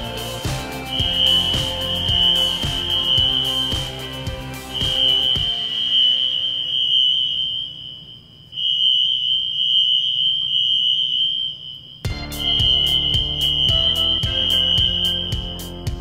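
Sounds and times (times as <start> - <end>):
fire alarm high-pitched tone: 0.7 - 15.8.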